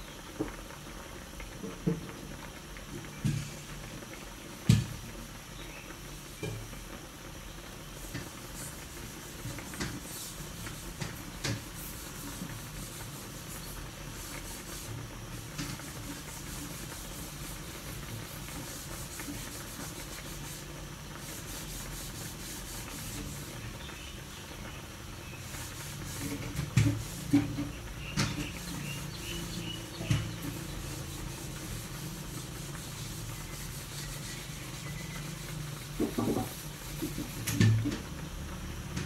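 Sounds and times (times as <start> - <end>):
liquid boiling in a wok: 0.0 - 39.0.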